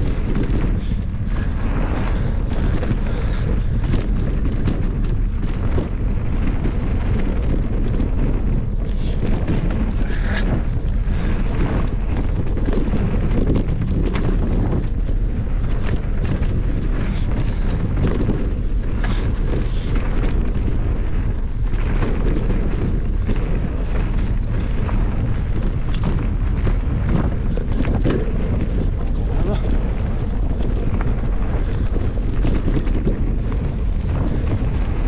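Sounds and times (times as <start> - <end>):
bike rattling over bumps: 0.0 - 35.0
wind buffeting microphone: 0.0 - 35.0.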